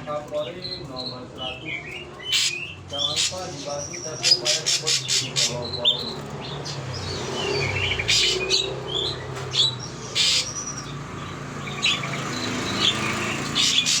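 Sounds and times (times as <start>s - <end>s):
songbirds chirping and trilling: 0.0s - 14.0s.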